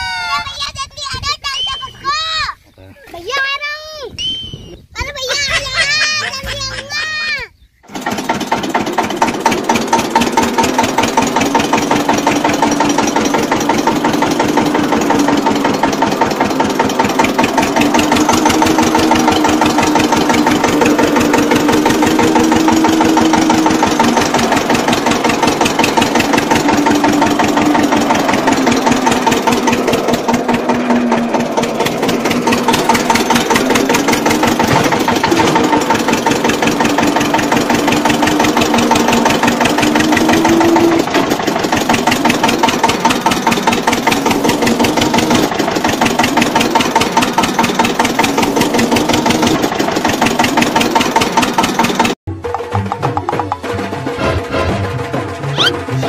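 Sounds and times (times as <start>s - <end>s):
small tractor engine chugging: 4.2s - 54.3s.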